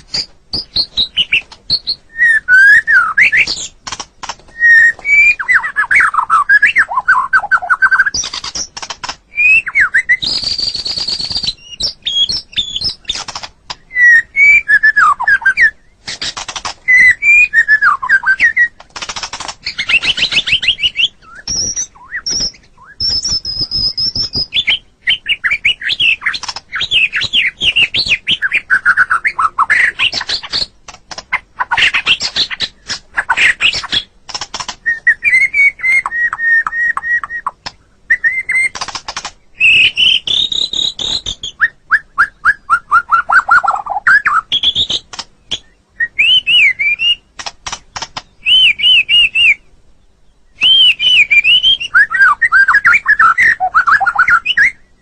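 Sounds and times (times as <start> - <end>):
bird singing varied whistled song: 0.0 - 3.8, 4.5 - 18.8, 19.6 - 30.7, 34.8 - 47.3, 48.2 - 55.0.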